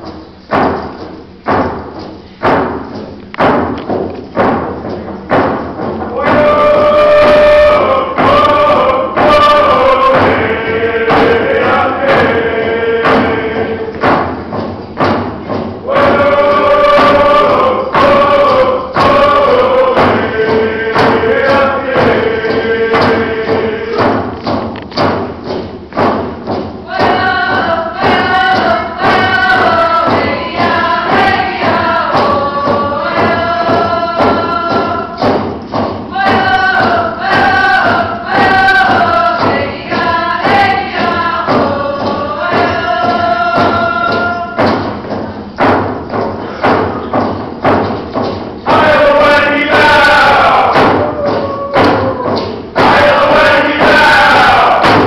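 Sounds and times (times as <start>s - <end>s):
hand drum beat: 0.0s - 55.0s
group of voices singing: 6.1s - 14.6s, 15.8s - 24.8s, 26.8s - 45.8s, 46.6s - 55.0s.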